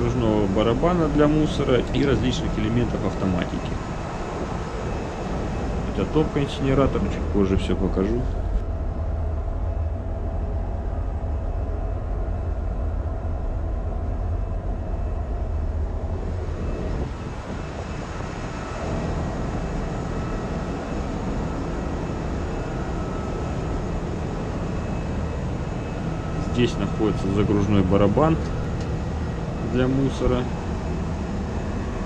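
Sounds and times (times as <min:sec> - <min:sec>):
engine room machinery drone: 0:00.0 - 0:32.0
machinery whining tones: 0:00.0 - 0:32.0.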